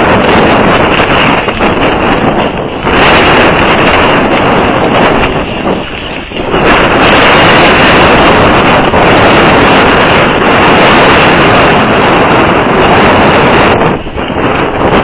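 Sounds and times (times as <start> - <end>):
wind blowing on microphone: 0.0 - 15.0.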